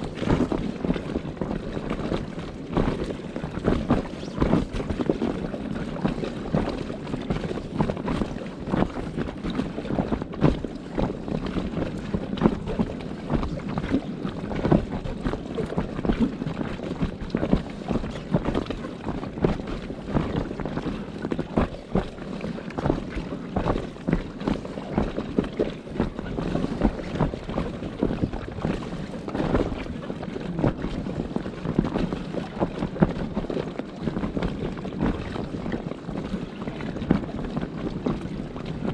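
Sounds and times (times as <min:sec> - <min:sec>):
water splashing around kayak: 0:00.0 - 0:38.9
wind buffeting microphone: 0:00.0 - 0:38.9.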